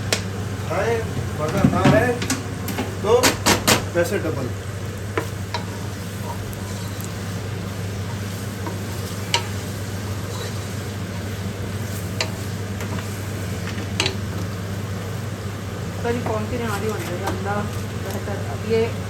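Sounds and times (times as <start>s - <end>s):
steady low hum: 0.0s - 19.0s
meat sizzling in a pot: 2.0s - 19.0s.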